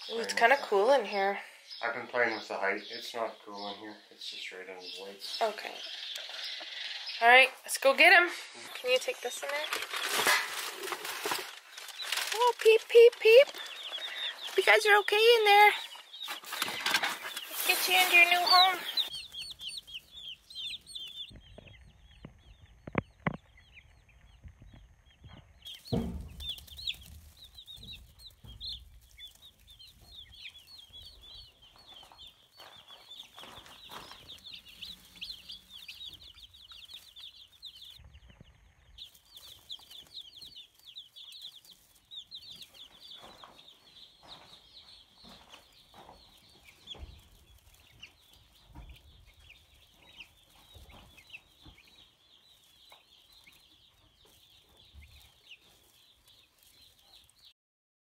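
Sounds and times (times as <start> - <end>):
baby chicks peeping: 0.0 - 57.5.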